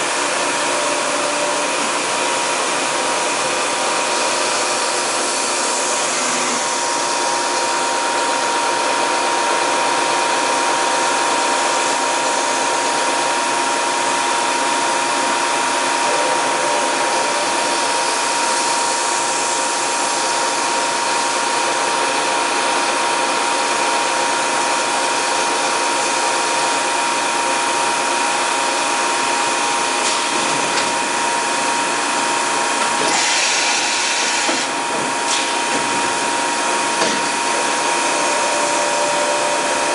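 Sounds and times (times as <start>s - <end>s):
machining center hum and whine: 0.0s - 39.9s.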